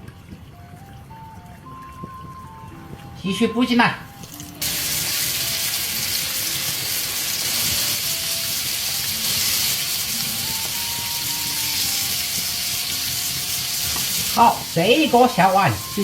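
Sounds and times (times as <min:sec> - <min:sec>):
fish deep-frying in oil: 0:00.0 - 0:16.0.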